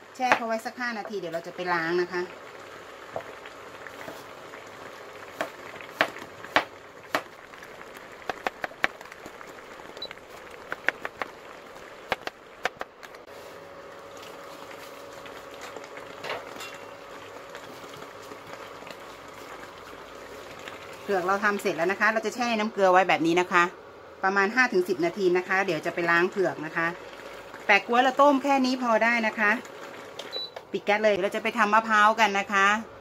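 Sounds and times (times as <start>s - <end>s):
pot simmering hiss: 0.0s - 33.0s.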